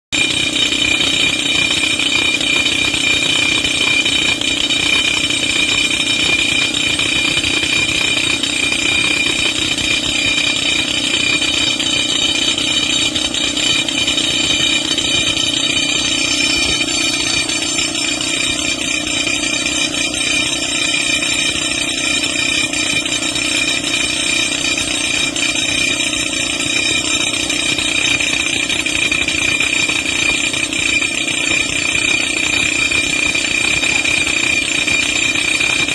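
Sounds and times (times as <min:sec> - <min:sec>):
pneumatic rock drill hammering: 0:00.2 - 0:35.9.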